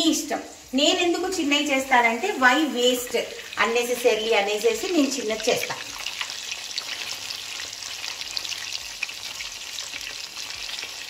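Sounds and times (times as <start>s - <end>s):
deep-frying sizzle and crackle: 0.0s - 11.0s.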